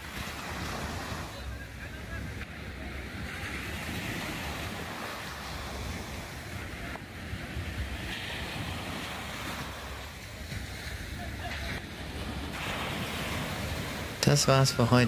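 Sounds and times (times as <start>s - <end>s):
waves surging onto beach: 0.0s - 15.0s.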